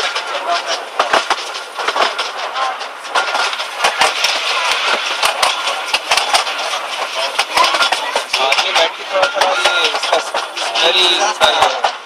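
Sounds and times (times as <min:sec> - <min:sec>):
miniature train carriages rattling: 0:00.0 - 0:12.0
steady rushing noise: 0:00.0 - 0:12.0
wheels clacking and knocking: 0:00.0 - 0:12.0.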